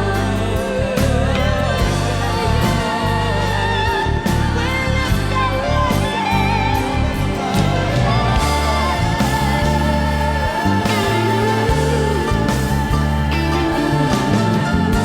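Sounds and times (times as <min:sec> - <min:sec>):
drum and cymbal hits: 0:00.0 - 0:15.0
melodic lead over sustained bass: 0:00.0 - 0:15.0.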